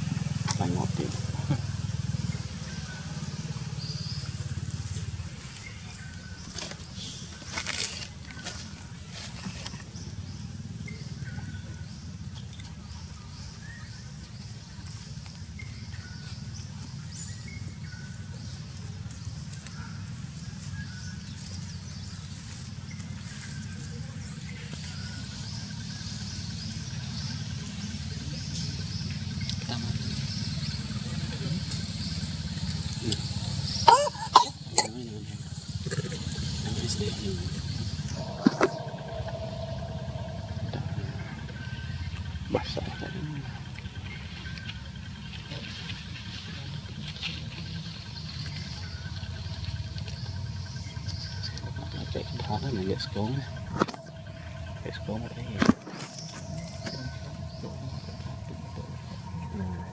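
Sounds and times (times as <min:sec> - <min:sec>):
insects chirping: 0:00.0 - 0:59.9
low steady rumble: 0:00.0 - 0:59.9
small engine idling: 0:00.0 - 0:59.9.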